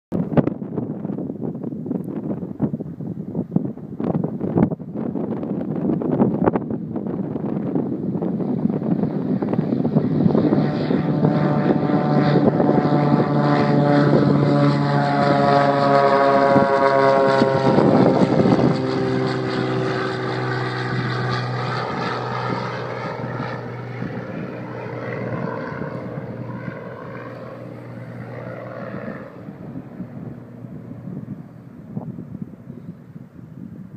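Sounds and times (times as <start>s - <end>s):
propeller plane engine passing: 0.1s - 33.9s.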